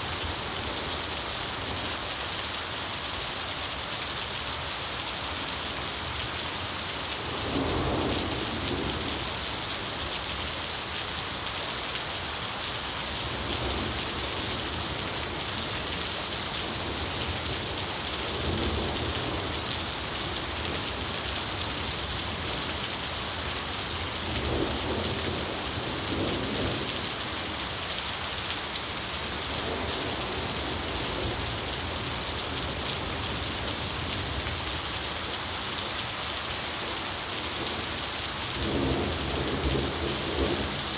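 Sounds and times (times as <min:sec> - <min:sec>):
rain pouring: 0:00.0 - 0:40.9.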